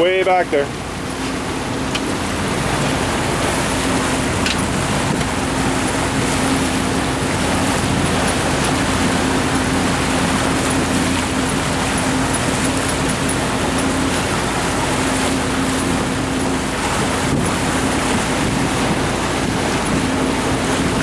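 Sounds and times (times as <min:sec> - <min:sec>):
boat engine droning: 0:00.0 - 0:21.0
rushing water and wind: 0:00.0 - 0:21.0.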